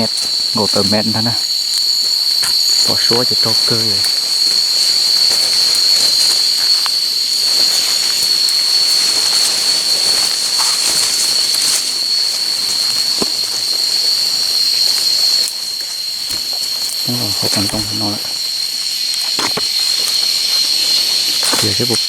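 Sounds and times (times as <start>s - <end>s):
jungle insects droning: 0.0s - 22.0s.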